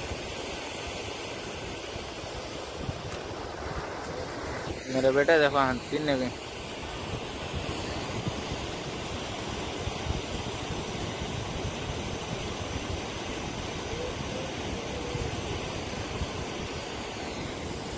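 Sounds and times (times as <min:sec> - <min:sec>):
floodwater rushing over rocks: 0:00.0 - 0:17.9.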